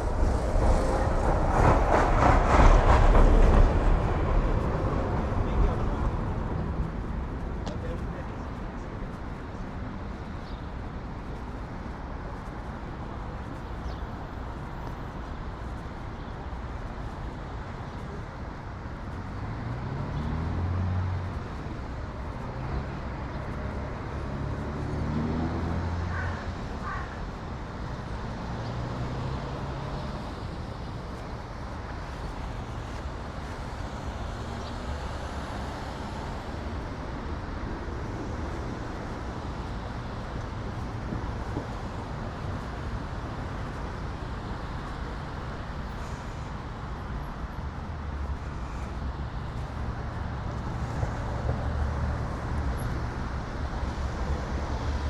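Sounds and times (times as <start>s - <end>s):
passing vehicle engine hum: 0.0s - 8.8s, 19.1s - 55.0s
road traffic noise: 0.0s - 55.0s.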